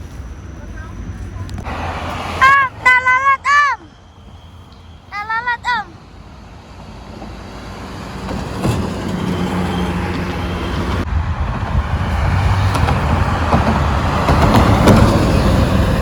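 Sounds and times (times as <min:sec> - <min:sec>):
bus engine and tyre noise: 0:00.0 - 0:16.0.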